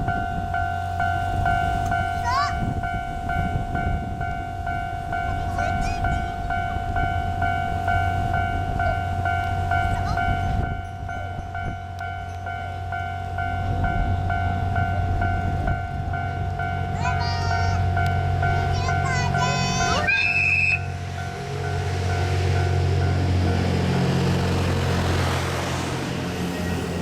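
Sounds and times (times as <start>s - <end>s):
level-crossing warning bell: 0.0s - 27.0s
train rumble: 0.0s - 27.0s.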